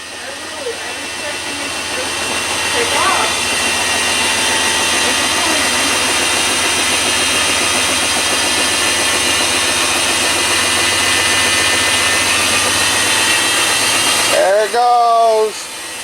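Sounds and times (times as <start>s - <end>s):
rattling vibration: 0.0s - 16.0s
washing machine spinning: 0.0s - 16.0s.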